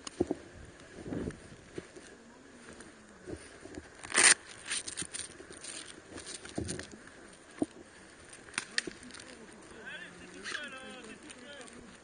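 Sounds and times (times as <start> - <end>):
footsteps on grass: 0.0 - 12.0
rustle of gear: 0.0 - 12.0.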